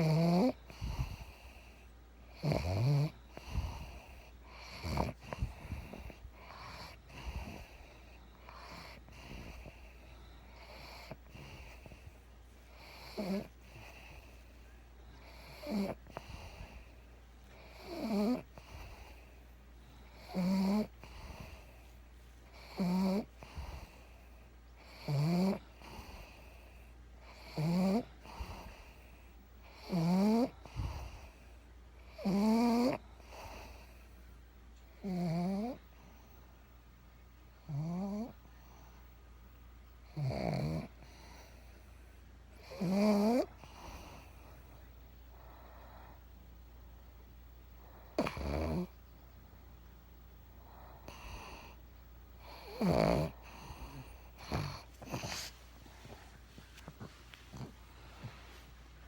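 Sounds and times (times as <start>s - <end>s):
dog snoring: 0.0s - 21.9s, 22.5s - 34.2s, 34.9s - 36.3s, 37.6s - 38.8s, 40.0s - 41.9s, 42.5s - 46.2s, 47.8s - 49.0s, 50.6s - 51.8s, 52.4s - 58.6s.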